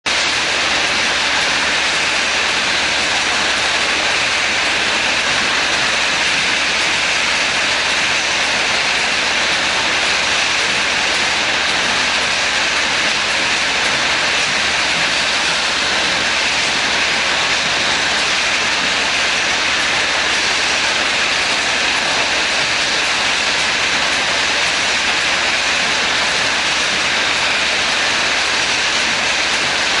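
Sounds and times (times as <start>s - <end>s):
bottle-filling machine running: 0.1s - 30.0s
chain conveyor running: 0.1s - 30.0s.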